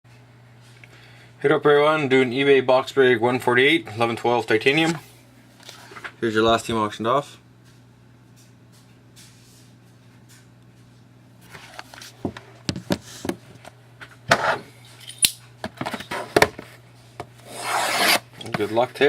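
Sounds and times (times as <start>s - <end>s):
low electrical hum: 0.1s - 19.0s.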